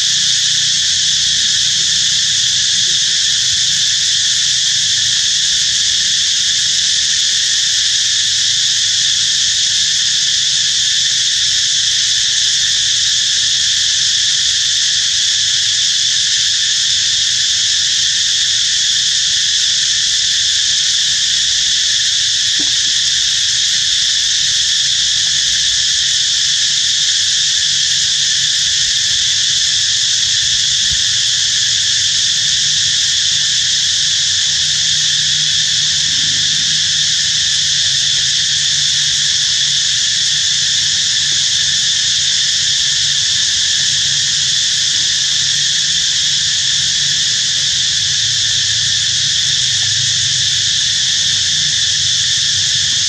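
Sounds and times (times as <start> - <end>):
shrill insect chorus: 0.0 - 53.0.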